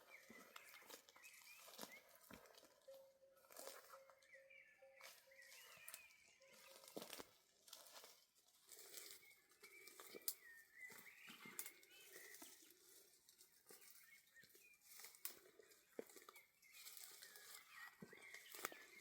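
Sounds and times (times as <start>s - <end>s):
faint bird chirps: 0.0s - 7.4s, 8.9s - 19.0s.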